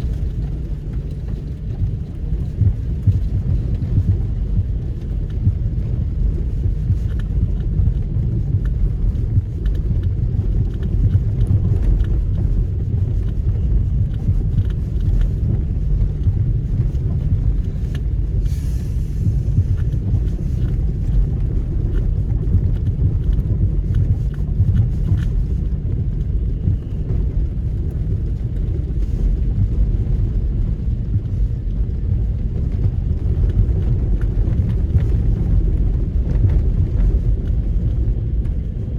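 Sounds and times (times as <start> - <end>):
car engine rumble: 0.0 - 38.9.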